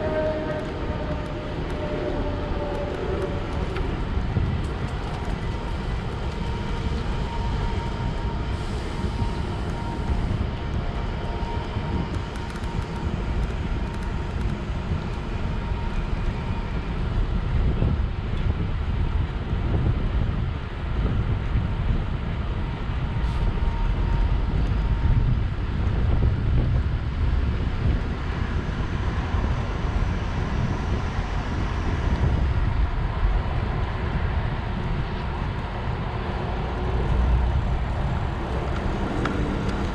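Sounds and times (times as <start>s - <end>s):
faint constant whine: 0.0s - 39.9s
wind rumbling on microphone: 0.0s - 39.9s.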